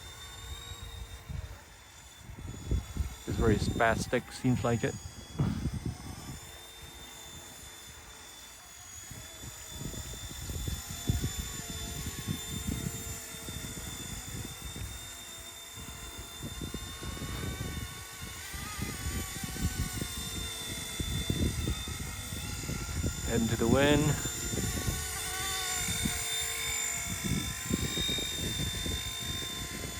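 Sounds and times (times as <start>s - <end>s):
remote-control helicopter whine: 0.0s - 29.9s
wind buffeting microphone: 2.2s - 6.6s, 9.1s - 15.2s, 15.8s - 29.9s.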